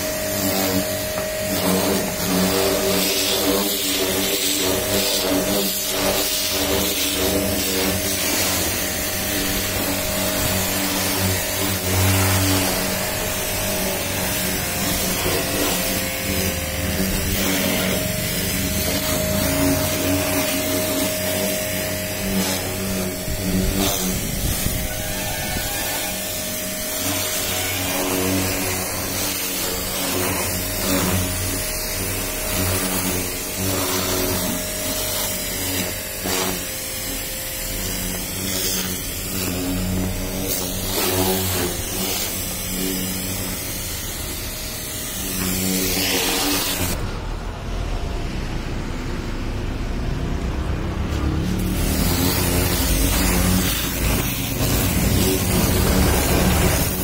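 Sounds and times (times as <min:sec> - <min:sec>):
water jet hissing on car: 0:00.0 - 0:47.0, 0:51.2 - 0:57.0
pressure washer motor hum: 0:00.0 - 0:57.0.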